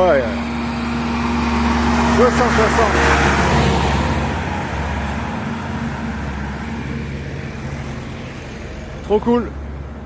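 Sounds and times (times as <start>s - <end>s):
tractor engine driving past: 0.0s - 9.9s.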